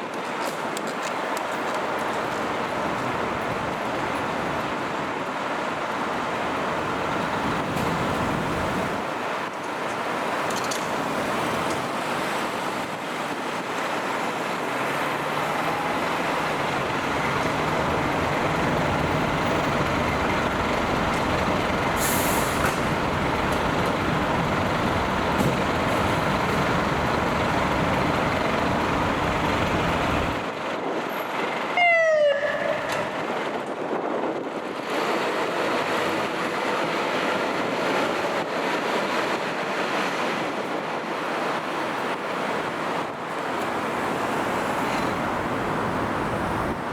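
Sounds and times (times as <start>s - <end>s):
fire truck engine and road noise: 0.0s - 46.9s.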